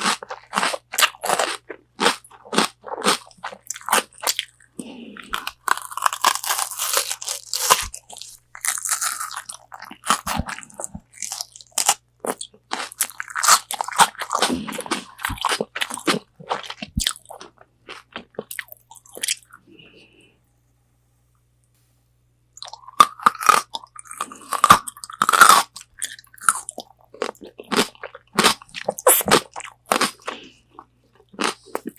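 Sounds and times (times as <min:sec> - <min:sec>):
crunching and chewing fried chicken: 0:00.0 - 0:19.7, 0:22.6 - 0:31.9.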